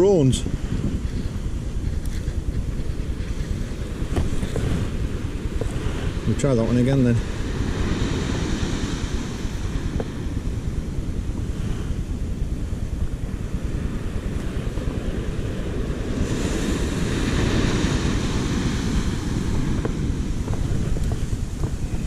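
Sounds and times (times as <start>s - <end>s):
sea surf washing on beach: 0.0s - 22.0s
wind rumbling on microphone: 0.0s - 22.0s.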